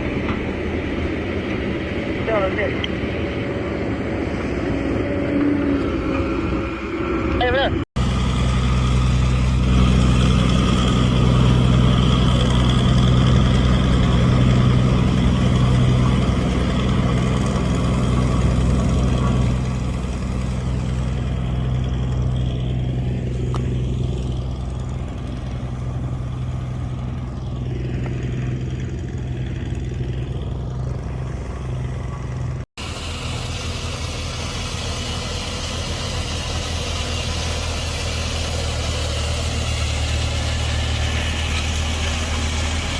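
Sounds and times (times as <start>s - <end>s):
heavy machinery diesel engine hum: 0.0s - 42.9s.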